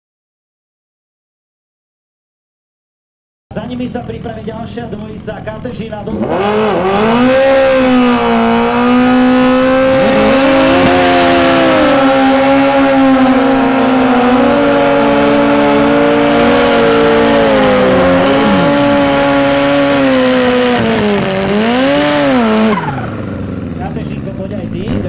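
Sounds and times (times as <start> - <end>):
motorcycle engine at high revs: 3.5 - 25.0
second engine revving: 3.5 - 25.0.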